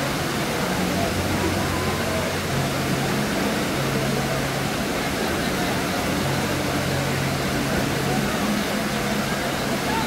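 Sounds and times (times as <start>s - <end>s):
rushing water noise: 0.0s - 10.0s.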